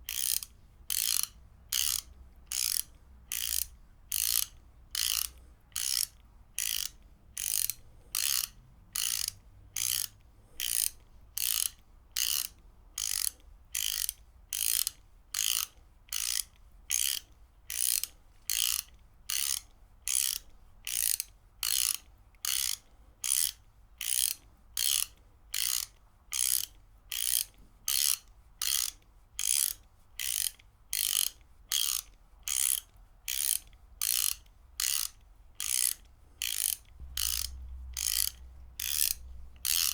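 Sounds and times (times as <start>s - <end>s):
ratchet wrench clicking: 0.1s - 39.9s.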